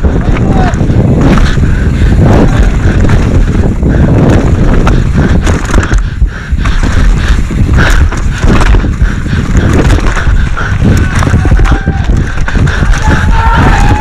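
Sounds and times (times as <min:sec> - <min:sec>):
bike clattering and knocking: 0:00.0 - 0:14.0
tyres rumbling on dirt: 0:00.0 - 0:14.0
wind buffeting microphone: 0:00.0 - 0:14.0.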